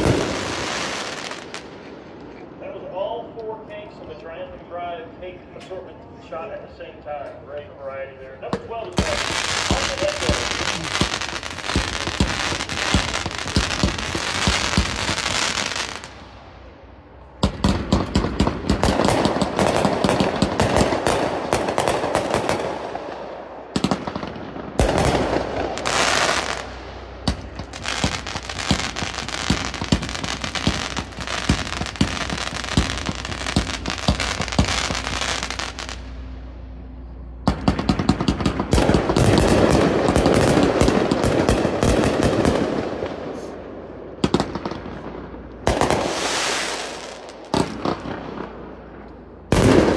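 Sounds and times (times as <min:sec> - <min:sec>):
crackling firework bursts: 0:00.0 - 0:02.4, 0:08.6 - 0:16.8, 0:17.4 - 0:36.4, 0:37.5 - 0:43.6, 0:44.2 - 0:48.9, 0:49.5 - 0:49.9.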